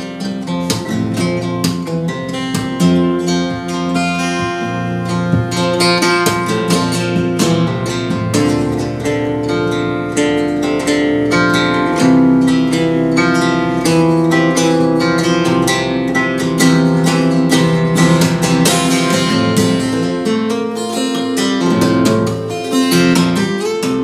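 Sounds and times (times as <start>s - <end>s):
lap steel acoustic guitar: 0.0s - 24.0s.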